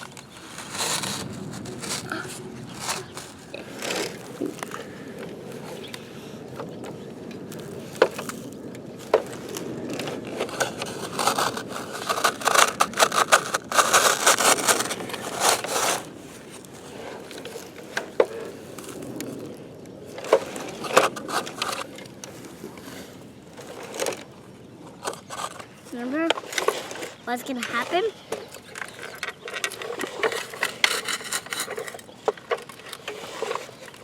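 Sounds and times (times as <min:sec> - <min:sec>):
toy digger scraping dirt: 0:00.0 - 0:34.0.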